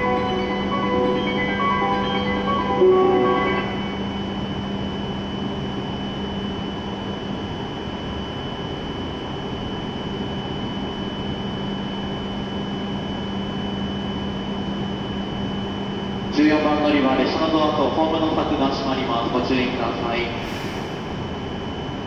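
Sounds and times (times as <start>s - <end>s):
high whine: 0.0s - 22.0s
train equipment low drone: 0.0s - 22.0s.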